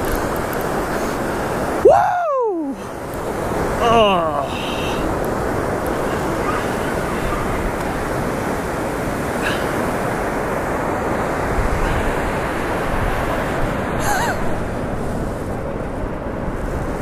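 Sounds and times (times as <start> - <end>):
ocean surf breaking on beach: 0.0 - 17.0
wind on microphone: 0.0 - 17.0.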